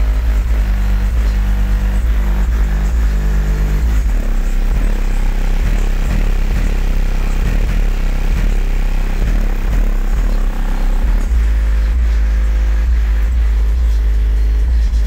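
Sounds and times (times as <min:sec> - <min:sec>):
loud bass-heavy music from car: 0:00.0 - 0:15.0.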